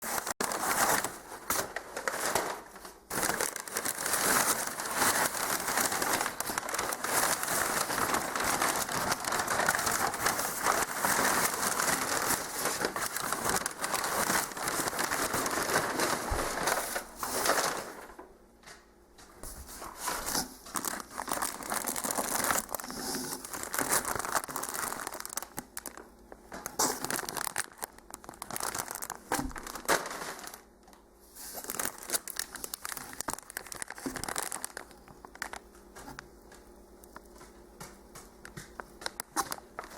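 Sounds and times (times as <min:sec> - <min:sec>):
packaging crinkling and rustling: 0:00.0 - 0:18.8, 0:19.4 - 0:39.9.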